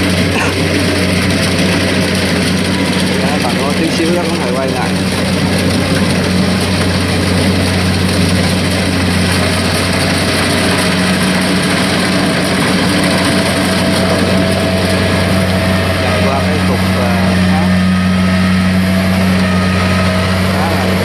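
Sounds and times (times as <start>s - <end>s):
combine harvester engine humming: 0.0s - 21.0s.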